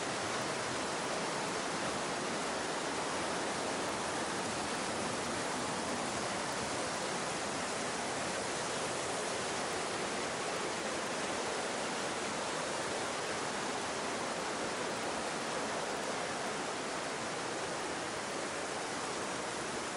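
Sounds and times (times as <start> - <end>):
water rushing through gorge: 0.0 - 19.9.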